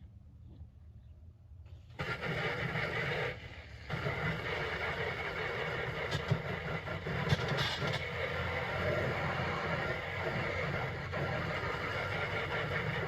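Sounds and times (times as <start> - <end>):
hose spraying water on metal: 2.0 - 13.0.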